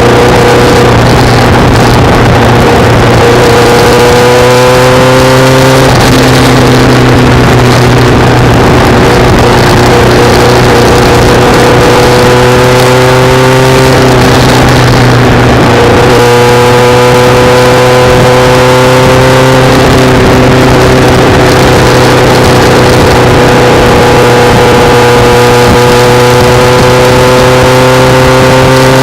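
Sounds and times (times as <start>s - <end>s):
motorcycle engine cruising: 0.0s - 29.0s
wind noise: 0.0s - 29.0s.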